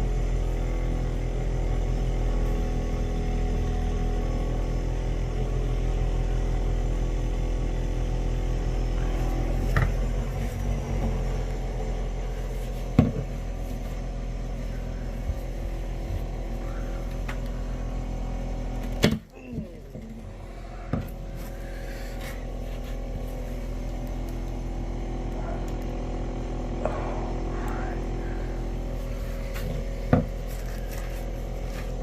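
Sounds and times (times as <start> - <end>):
refrigerator motor humming: 0.0 - 32.0.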